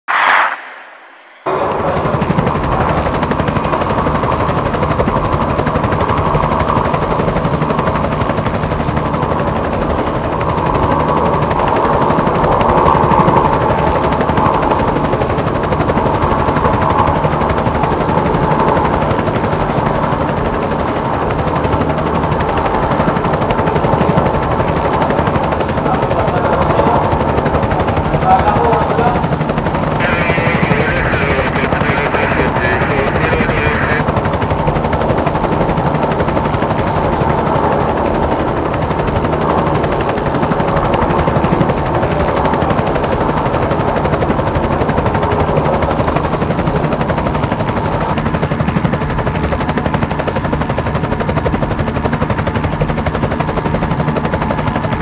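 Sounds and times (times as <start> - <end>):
helicopter rotor chop: 0.1 - 55.0.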